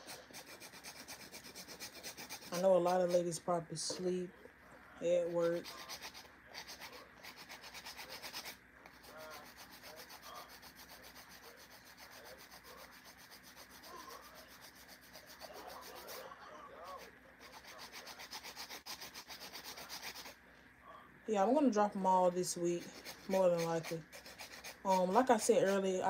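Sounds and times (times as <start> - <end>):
nail file scraping nails: 0.0 - 4.0, 5.1 - 16.3, 16.9 - 20.4, 22.8 - 25.8.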